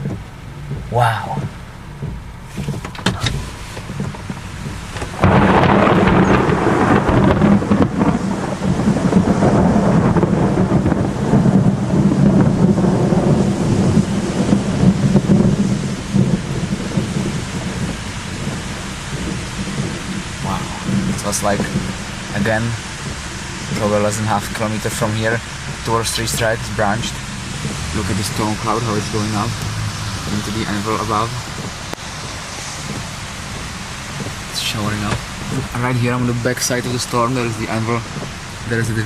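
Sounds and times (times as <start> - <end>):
thunder crack and rumble: 0.0 - 39.0.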